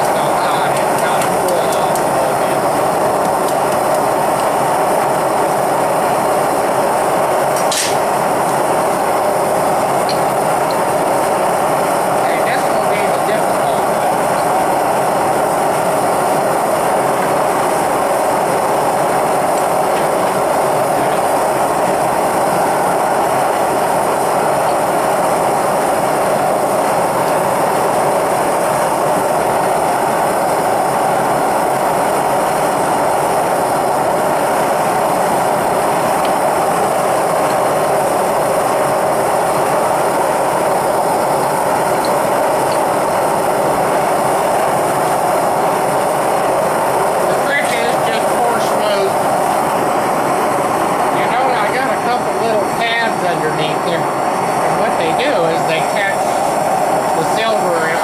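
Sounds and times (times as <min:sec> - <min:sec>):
propane burner rushing: 0:00.0 - 0:58.0.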